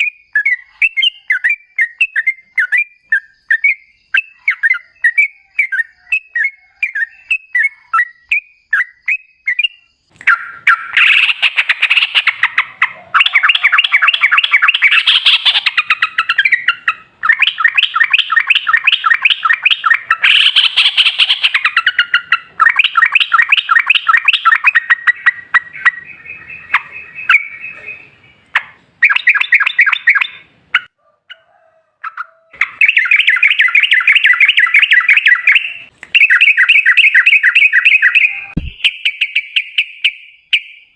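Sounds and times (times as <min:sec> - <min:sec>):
bird chirping and chattering: 0:00.0 - 0:31.4, 0:32.0 - 0:40.9.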